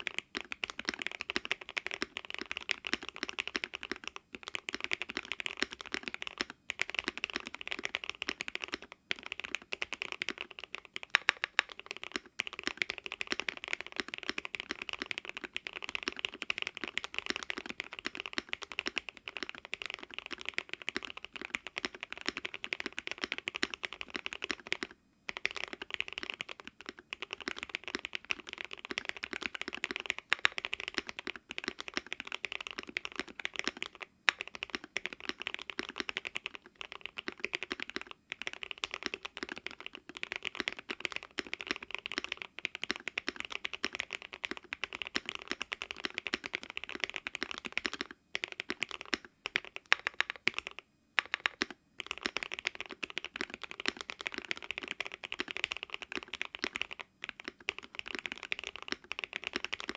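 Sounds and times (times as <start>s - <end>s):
mechanical keyboard typing: 0.0s - 59.9s.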